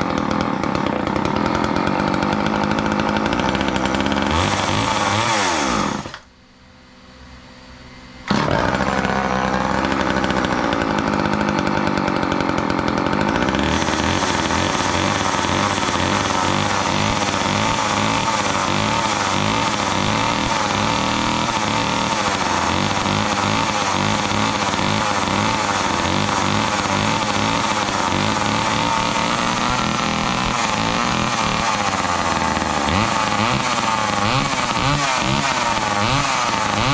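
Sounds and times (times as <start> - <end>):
chainsaw engine running: 0.0 - 6.3, 8.3 - 36.9.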